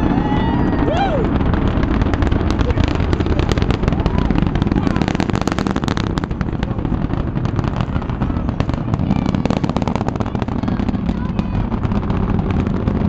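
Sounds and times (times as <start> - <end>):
rocket engines roaring and crackling: 0.0 - 13.0.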